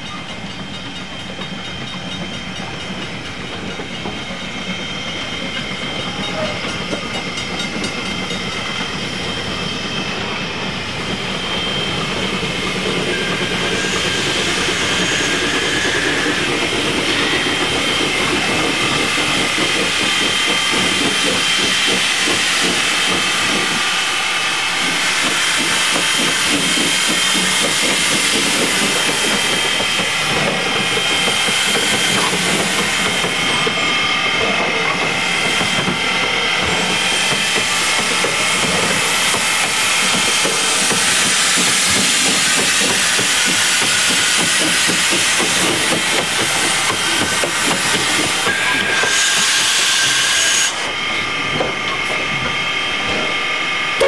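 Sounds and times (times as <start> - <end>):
steam hissing: 0.4 - 54.0.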